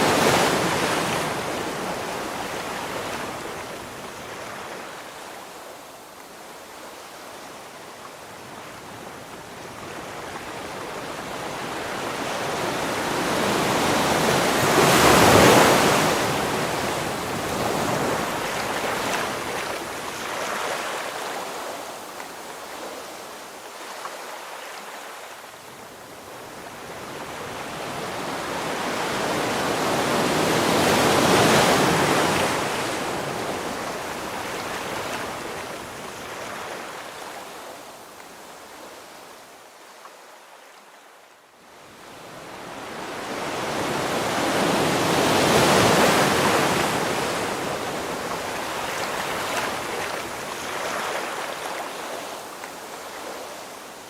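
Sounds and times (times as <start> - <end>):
ocean waves crashing on shore: 0.0 - 39.5, 41.7 - 54.0.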